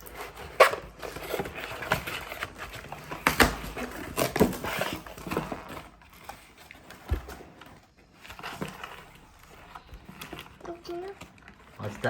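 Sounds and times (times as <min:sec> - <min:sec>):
toy packaging crackling and rustling: 0:00.0 - 0:12.0.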